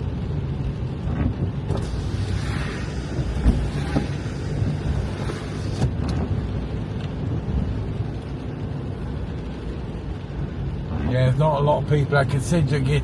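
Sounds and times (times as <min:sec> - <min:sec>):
rain hissing on car: 0:00.0 - 0:13.0
road and engine rumble: 0:00.0 - 0:13.0.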